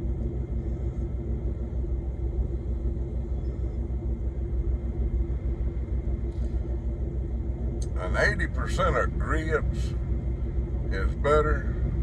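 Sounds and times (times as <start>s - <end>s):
engine idling: 0.0s - 12.0s
faint steady hum: 0.0s - 12.0s.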